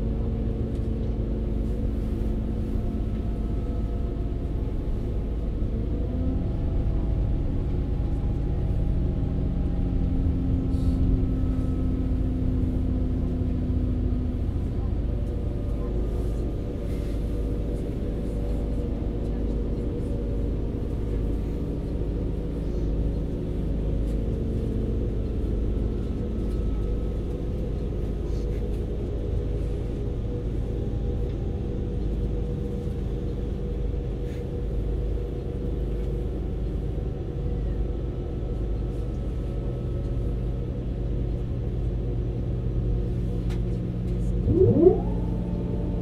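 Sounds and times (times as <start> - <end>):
diesel engine drone: 0.0 - 46.0
rail rumble: 0.0 - 46.0.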